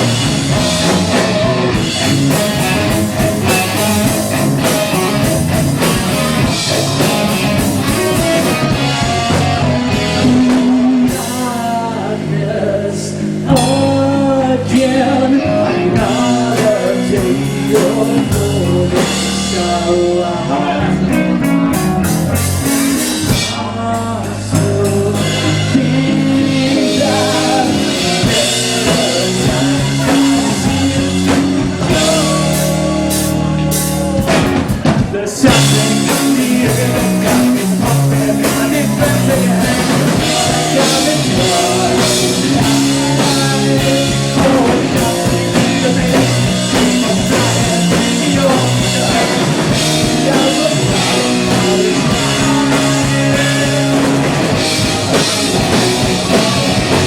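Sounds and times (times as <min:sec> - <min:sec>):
bass guitar: 0:00.0 - 0:57.0
drum kit: 0:00.0 - 0:57.0
electric guitar: 0:00.0 - 0:57.0
person singing: 0:00.0 - 0:57.0.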